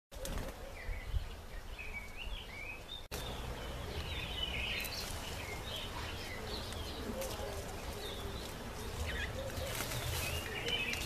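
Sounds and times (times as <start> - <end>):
birds chirping: 0.1 - 11.0.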